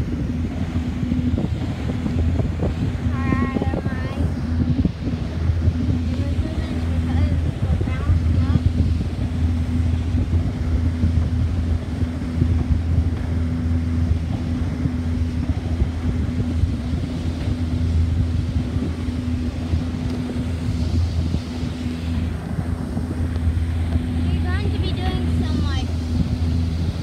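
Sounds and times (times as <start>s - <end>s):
motorboat engine running: 0.0s - 27.0s
wind noise on microphone: 0.0s - 27.0s.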